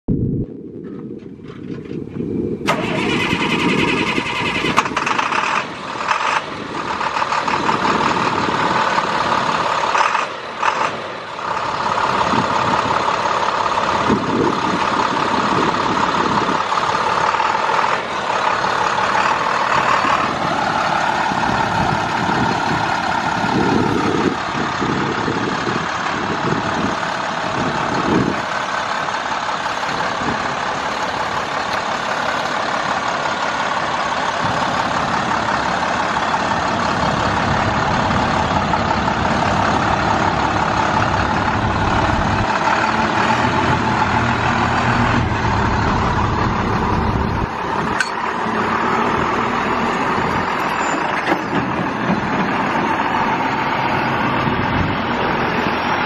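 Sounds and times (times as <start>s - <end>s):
diesel truck engine running: 0.2s - 56.0s.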